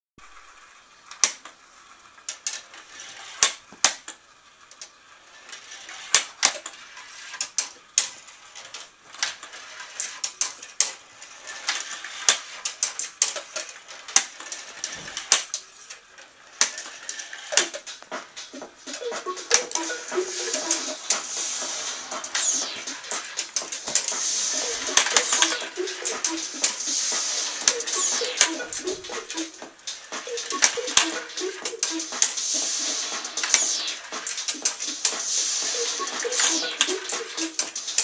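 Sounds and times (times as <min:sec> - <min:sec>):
balls clicking along tracks: 0:02.2 - 0:38.0.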